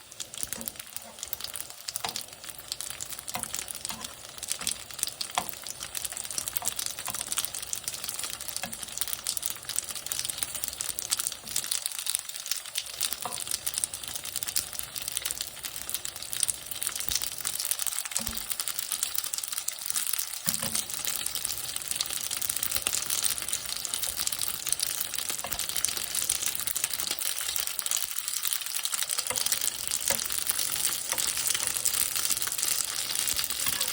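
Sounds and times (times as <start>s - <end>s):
dumplings sizzling in oil: 0.0s - 33.9s.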